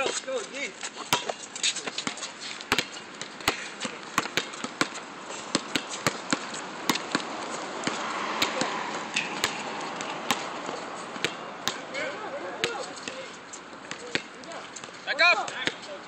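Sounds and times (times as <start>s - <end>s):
basketballs bouncing on concrete: 0.0s - 16.0s.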